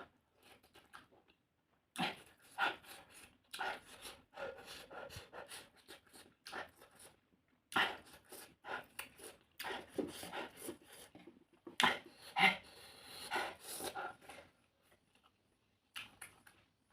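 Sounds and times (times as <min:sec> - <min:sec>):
person chewing and smacking: 0:00.4 - 0:04.9, 0:05.5 - 0:12.1, 0:13.7 - 0:16.8.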